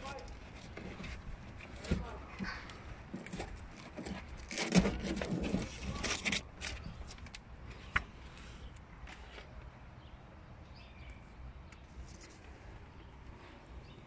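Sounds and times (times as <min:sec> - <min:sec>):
rustling and scraping of handled objects: 0:00.0 - 0:09.8, 0:11.8 - 0:13.7.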